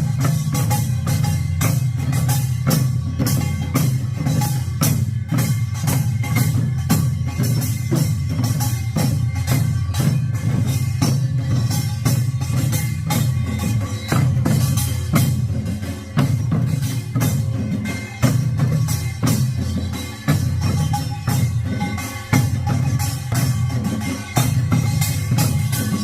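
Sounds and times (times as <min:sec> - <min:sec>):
barrel drums beaten fast: 0:00.0 - 0:26.0.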